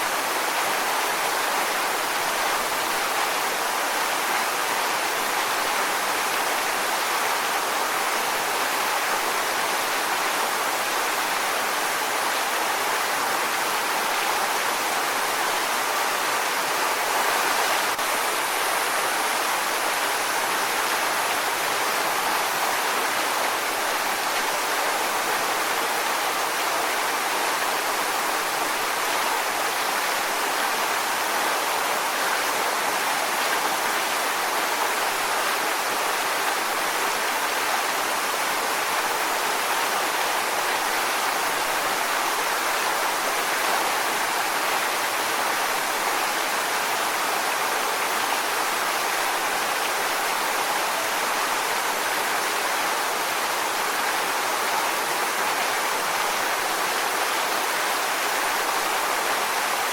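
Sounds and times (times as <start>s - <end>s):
waterfall roaring over rocks: 0.0s - 59.9s.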